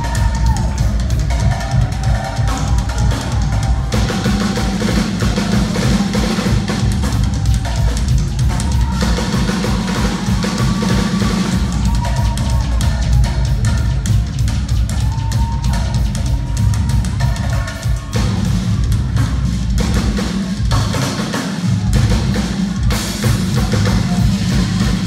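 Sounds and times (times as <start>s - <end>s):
drum kit beat: 0.0s - 25.0s
live band playing: 0.0s - 25.0s.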